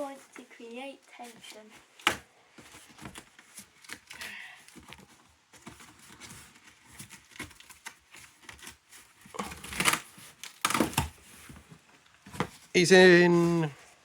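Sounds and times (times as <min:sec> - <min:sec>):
cardboard packaging being handled: 0:00.0 - 0:14.0
cardboard rustle: 0:00.0 - 0:14.0.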